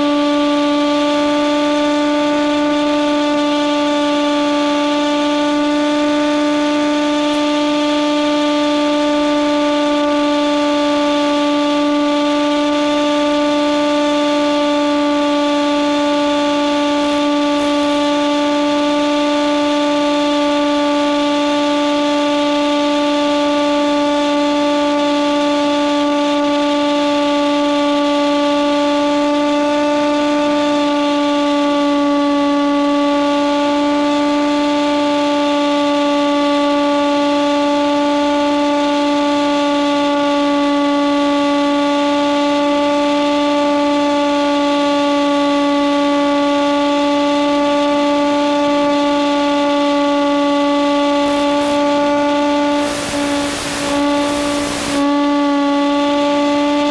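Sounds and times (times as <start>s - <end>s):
electric motor and propeller droning: 0.0s - 56.9s.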